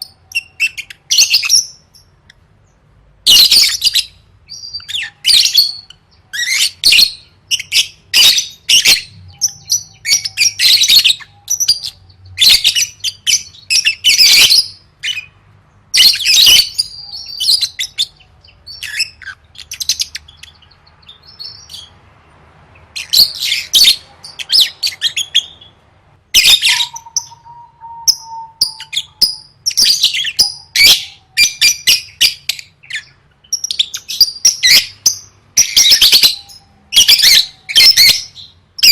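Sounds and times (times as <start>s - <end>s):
lovebird chirping: 0.0s - 22.0s, 22.8s - 38.9s.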